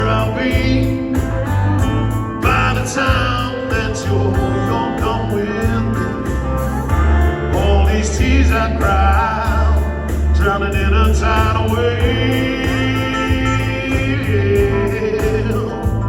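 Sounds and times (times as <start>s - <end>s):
heavy pulsing bass line: 0.0s - 16.0s
loud amplified guitar music: 0.0s - 16.0s.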